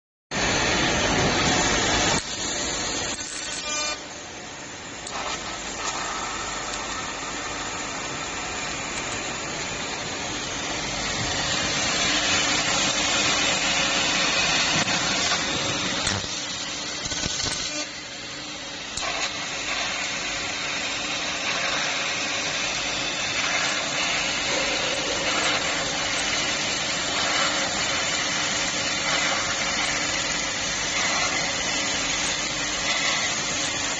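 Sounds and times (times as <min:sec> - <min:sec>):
laser cutter hissing: 0:00.3 - 0:33.9.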